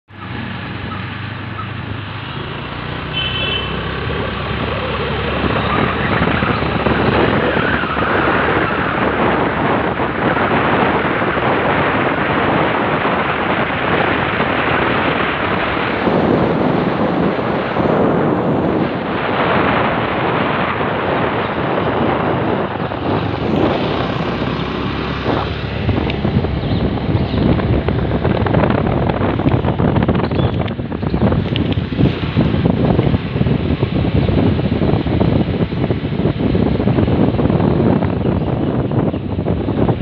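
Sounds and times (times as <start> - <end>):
wind and road noise: 0.0 - 40.0
motorcycle engine humming: 0.1 - 40.0.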